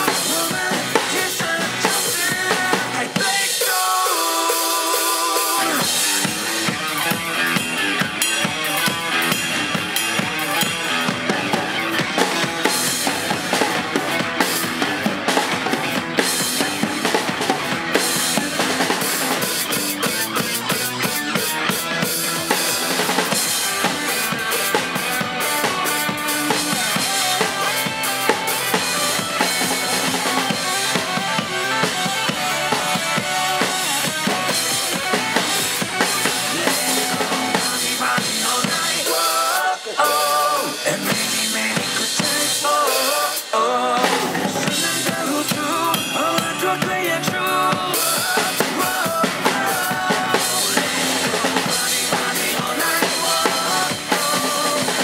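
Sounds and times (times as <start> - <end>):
drum kit playing: 0.0 - 55.0
pop-rock backing track: 0.0 - 55.0.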